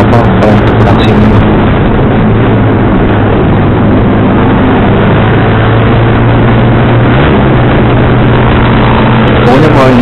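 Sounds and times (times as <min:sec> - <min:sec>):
motorcycle engine cruising: 0:00.0 - 0:10.0
wind rushing over microphone: 0:00.0 - 0:10.0.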